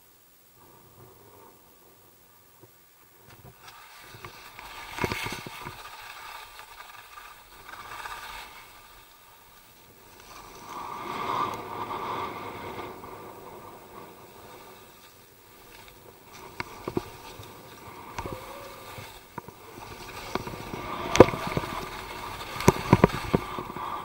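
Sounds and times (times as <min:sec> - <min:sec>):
skis hissing through snow: 0:03.5 - 0:24.0
sharp ski clicks: 0:03.6 - 0:13.2, 0:13.9 - 0:24.0.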